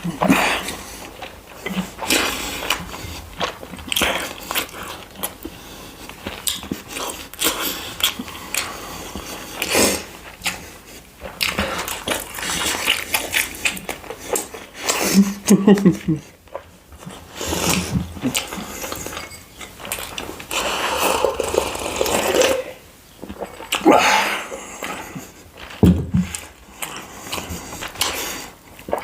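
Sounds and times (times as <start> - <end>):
biting and crunching food: 0.0 - 29.0.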